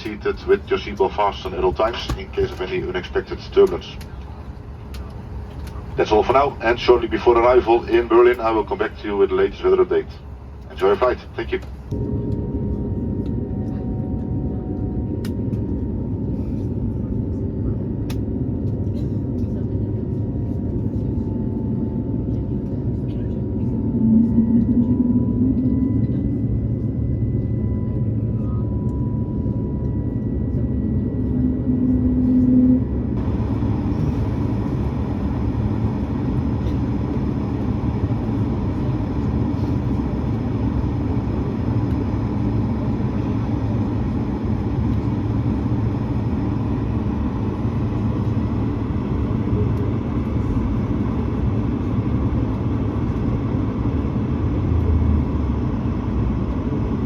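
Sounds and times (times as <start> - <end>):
aircraft engine rumble: 0.0 - 57.0
faint steady whine: 0.0 - 57.0.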